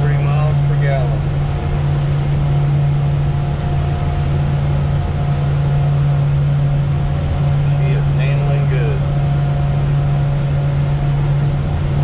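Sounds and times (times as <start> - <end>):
outboard engine running: 0.0 - 12.0
wind and water rushing: 0.0 - 12.0.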